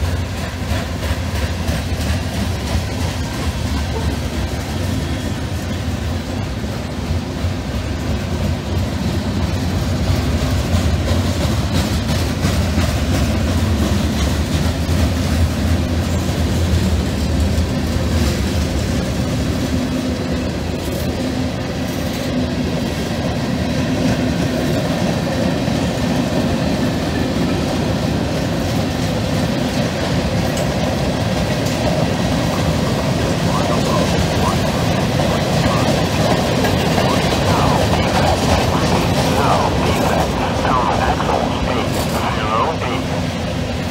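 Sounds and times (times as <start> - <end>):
freight train wheels on rails: 0.0 - 43.9.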